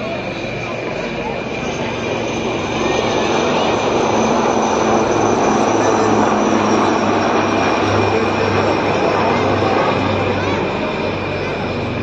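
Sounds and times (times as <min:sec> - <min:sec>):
aircraft flying overhead: 0:00.0 - 0:12.0.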